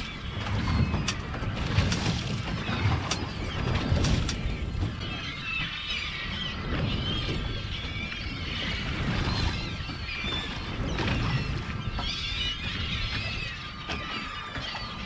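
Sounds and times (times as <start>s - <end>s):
seabirds calling: 0.0s - 15.0s.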